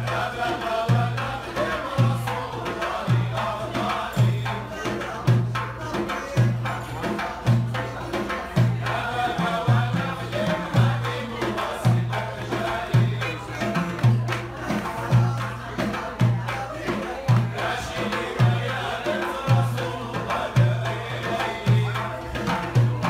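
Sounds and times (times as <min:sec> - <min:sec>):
hand percussion: 0:00.0 - 0:23.0
low drum beat: 0:00.0 - 0:23.0.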